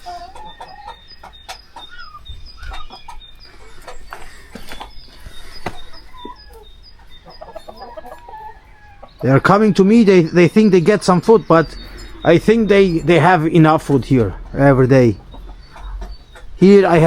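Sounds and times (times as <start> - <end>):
chickens clucking: 0.0 - 17.0
small birds chirping: 0.0 - 17.0.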